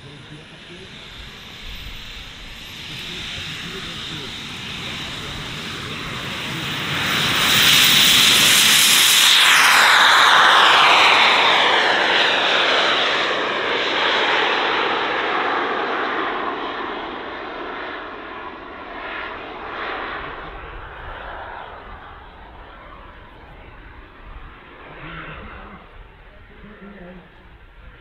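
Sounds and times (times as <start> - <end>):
model jet turbines roaring: 0.0 - 28.0.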